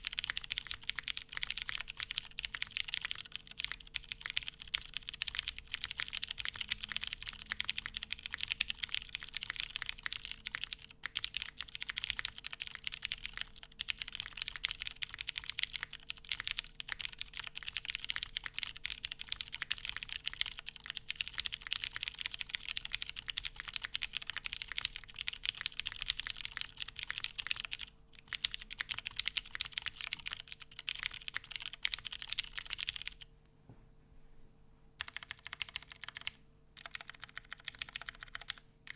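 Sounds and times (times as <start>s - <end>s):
mechanical keyboard typing: 0.0s - 33.3s, 35.0s - 38.9s.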